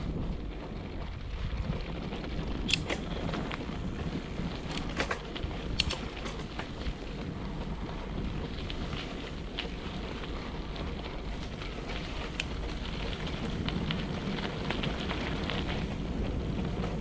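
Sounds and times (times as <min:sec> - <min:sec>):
bike clicks and ticks: 0:00.0 - 0:17.0
wind buffeting microphone: 0:00.0 - 0:17.0.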